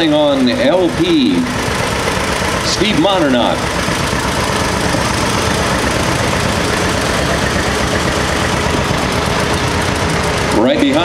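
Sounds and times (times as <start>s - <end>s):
tractor engine driving past: 0.0s - 11.0s.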